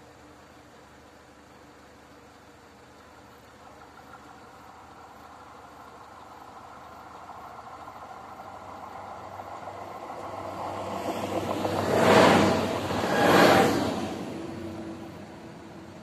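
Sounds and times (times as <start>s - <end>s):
diesel railcar approaching: 0.0s - 16.0s
train wheels crossing road: 0.0s - 16.0s.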